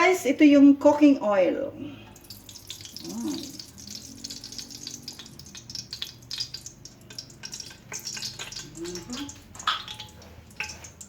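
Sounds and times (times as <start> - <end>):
cooking oil sizzling in pan: 2.1 - 11.0.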